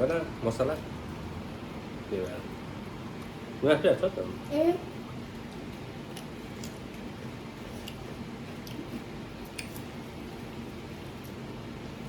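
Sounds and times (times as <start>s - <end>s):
quiet eating sounds: 0.0s - 12.0s
steady low hum: 0.0s - 12.0s.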